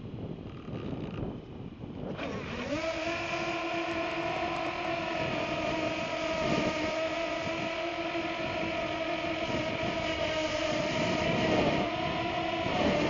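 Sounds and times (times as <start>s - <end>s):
wind buffeting microphone: 0.0s - 13.0s
drone propellers whining: 2.0s - 13.0s.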